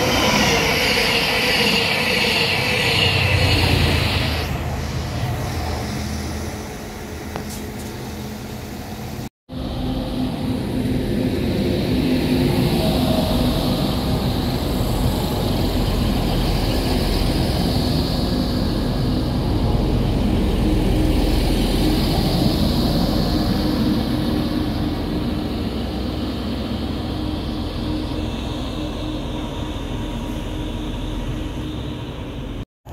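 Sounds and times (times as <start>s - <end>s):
train wheels on rails: 0.0s - 32.9s.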